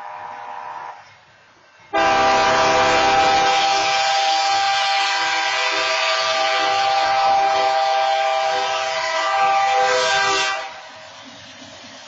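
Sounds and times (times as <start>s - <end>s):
locomotive air horn: 0.0s - 1.1s, 1.9s - 11.0s
train rumbling past: 0.0s - 12.0s.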